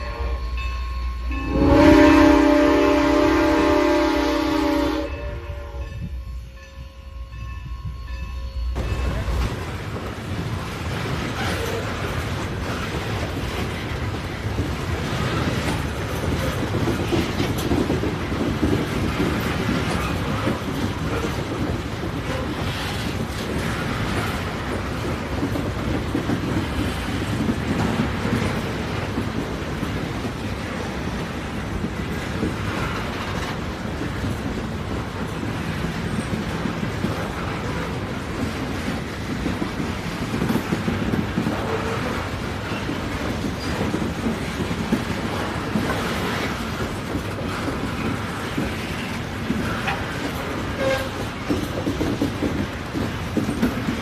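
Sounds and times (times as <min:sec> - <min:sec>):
moving train rumble: 0:00.0 - 0:54.0.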